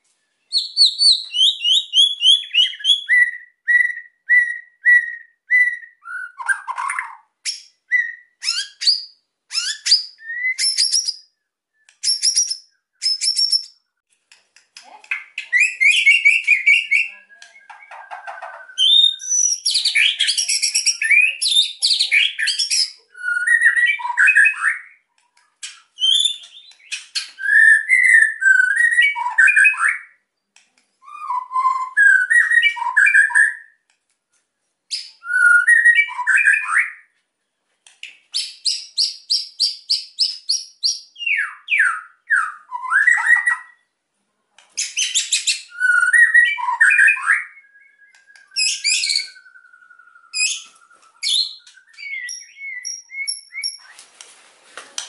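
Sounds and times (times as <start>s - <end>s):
bird singing whistled phrases: 0.5s - 13.9s, 15.4s - 25.0s, 26.0s - 30.2s, 31.0s - 33.8s, 34.9s - 37.1s, 38.4s - 43.9s, 44.8s - 54.0s.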